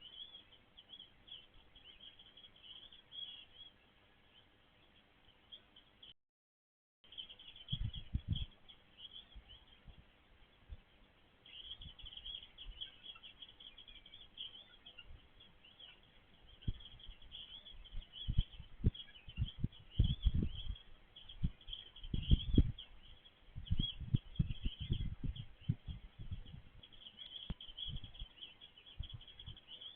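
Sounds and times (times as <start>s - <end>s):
small birds chirping: 0.0s - 6.2s, 7.0s - 29.9s.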